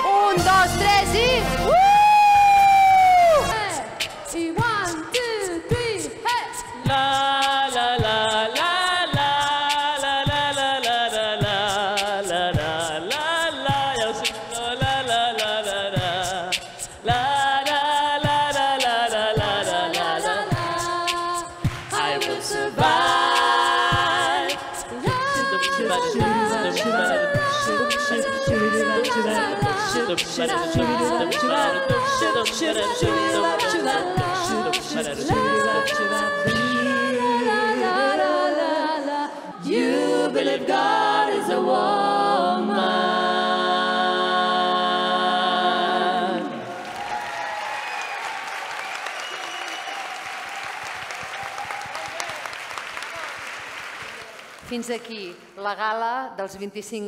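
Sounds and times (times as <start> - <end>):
voices singing in harmony: 0.0 - 47.1.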